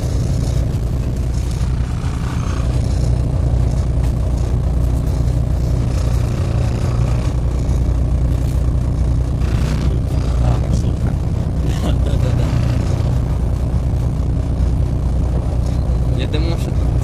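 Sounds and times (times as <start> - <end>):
bus diesel engine drone: 0.0 - 17.0
road noise: 0.0 - 17.0.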